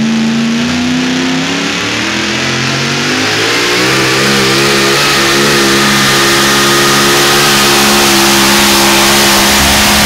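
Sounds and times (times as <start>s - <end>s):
high supercharger whine: 0.0s - 10.0s
truck engine revving: 0.0s - 10.0s.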